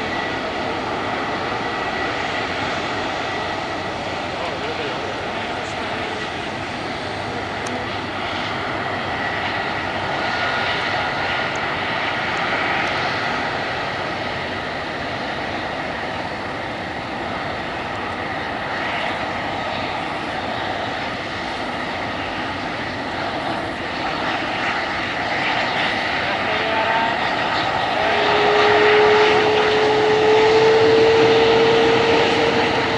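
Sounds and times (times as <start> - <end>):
jet engines whining: 0.0 - 32.9.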